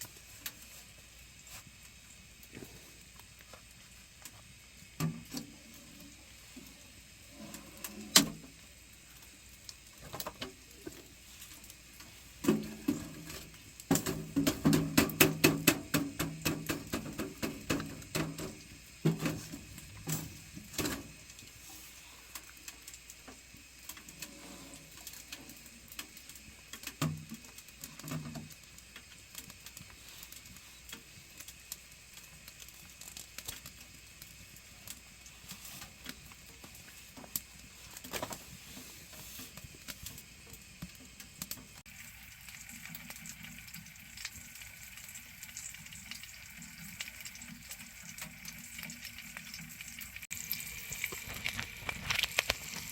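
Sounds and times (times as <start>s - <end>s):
firewood crackling and popping: 0.0s - 52.9s
low steady hiss: 0.0s - 52.9s.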